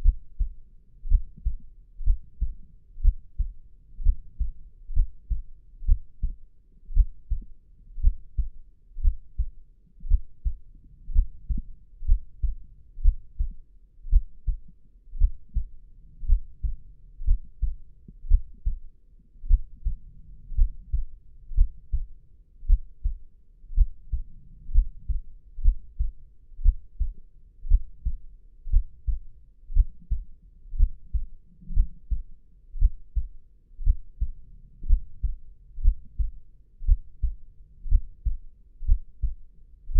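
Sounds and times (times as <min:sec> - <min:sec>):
human heartbeat: 0:00.0 - 0:39.9.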